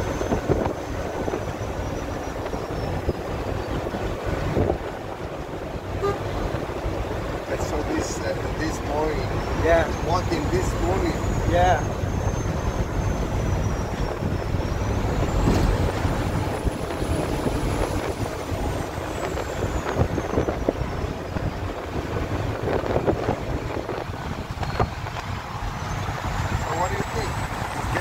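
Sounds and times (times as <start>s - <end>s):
truck engine and road rumble: 0.0s - 28.0s.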